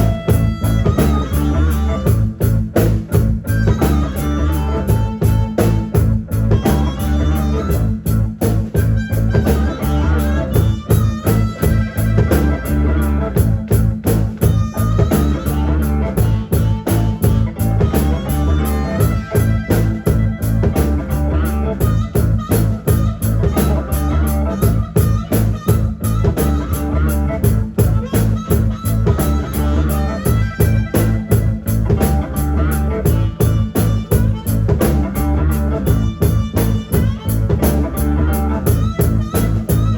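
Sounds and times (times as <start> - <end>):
blues-rock band playing: 0.0 - 39.9
electric guitar: 0.0 - 39.9.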